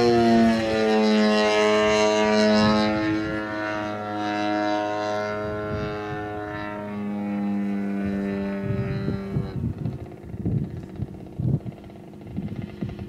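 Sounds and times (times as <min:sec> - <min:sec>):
propeller airplane engine buzzing: 0:00.0 - 0:13.0.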